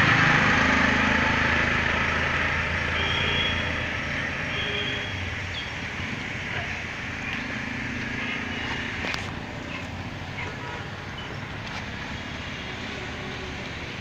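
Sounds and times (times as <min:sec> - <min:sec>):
engine hum: 0:00.0 - 0:14.0
road traffic rumble: 0:00.0 - 0:14.0.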